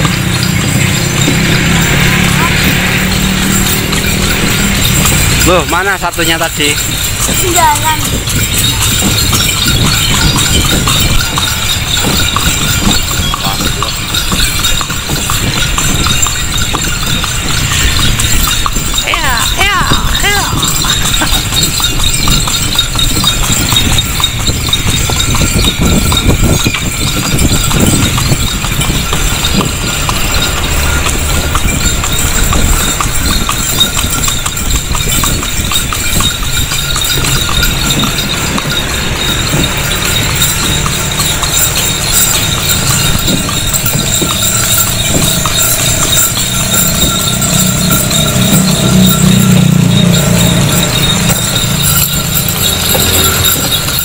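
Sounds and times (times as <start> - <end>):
horse hooves clip-clopping on road: 0.0 - 54.0.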